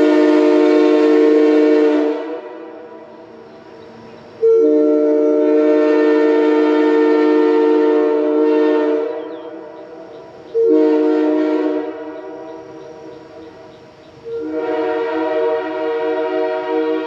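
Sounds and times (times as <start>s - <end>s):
train horn chord blasts: 0.0s - 17.0s.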